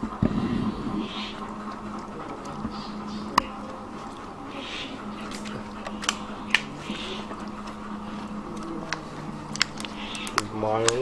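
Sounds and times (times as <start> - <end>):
dogs crunching biscuits: 0.0 - 11.0
soft wet chewing: 0.2 - 11.0.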